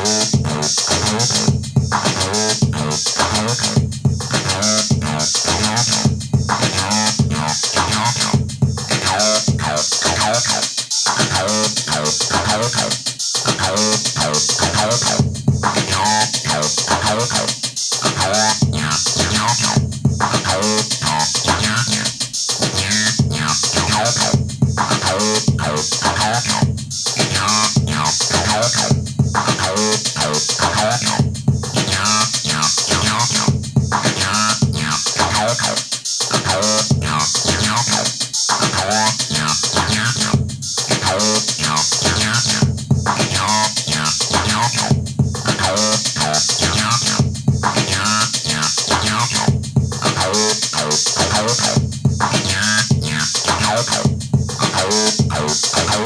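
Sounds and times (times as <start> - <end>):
electronic drums: 0.0 - 56.0
squelchy synthesizer bassline: 4.5 - 17.5, 18.2 - 22.1, 22.8 - 26.6, 27.2 - 31.2, 31.9 - 35.8, 36.5 - 40.3, 40.9 - 44.9, 45.5 - 49.5, 50.1 - 56.0.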